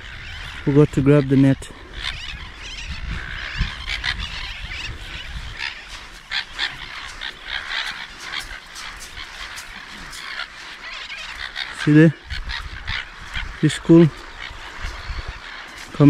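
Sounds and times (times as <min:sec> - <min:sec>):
seabirds squawking: 0:00.0 - 0:16.0.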